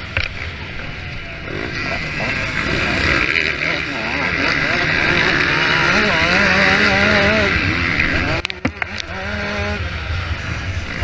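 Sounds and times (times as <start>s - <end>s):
motocross engines revving: 0.0s - 11.0s.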